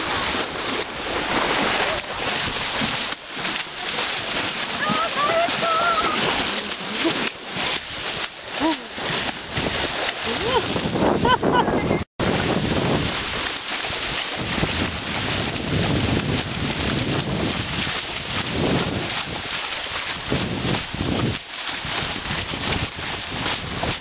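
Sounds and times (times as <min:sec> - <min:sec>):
water splashing around horses' legs: 0:00.0 - 0:24.0
wind buffeting microphone: 0:04.4 - 0:24.0.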